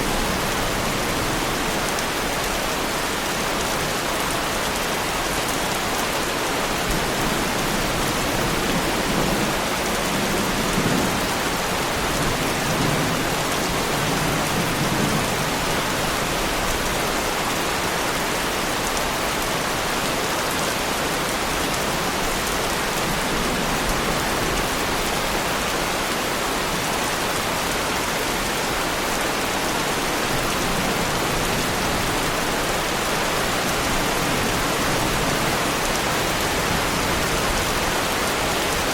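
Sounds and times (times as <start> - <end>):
heavy rain on a car: 0.0 - 38.9.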